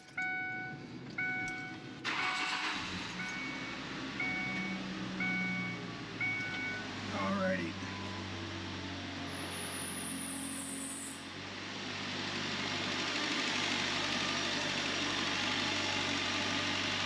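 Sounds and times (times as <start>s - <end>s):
car engine idling: 0.0s - 10.6s, 11.3s - 17.0s.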